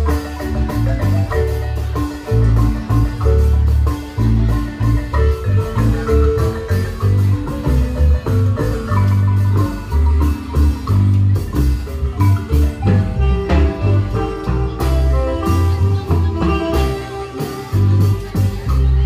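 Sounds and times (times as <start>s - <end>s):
marimba band playing: 0.0s - 19.0s.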